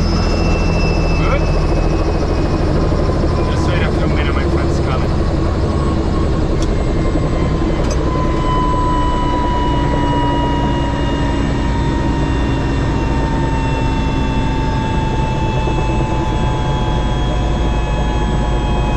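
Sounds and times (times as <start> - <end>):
helicopter engine and rotor noise: 0.0 - 18.9
helicopter whine: 0.0 - 18.9.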